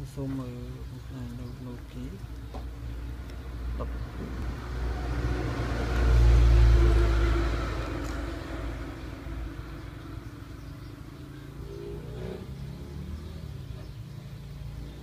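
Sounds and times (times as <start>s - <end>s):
vehicle engine rumble passing: 0.4s - 15.0s.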